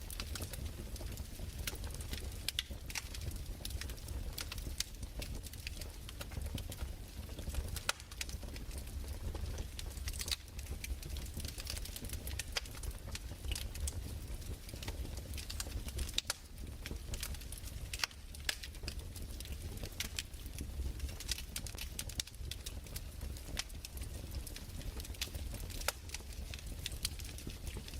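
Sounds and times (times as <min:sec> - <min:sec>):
fire crackling and popping: 0:00.0 - 0:27.9
low fire rumble: 0:00.0 - 0:27.9.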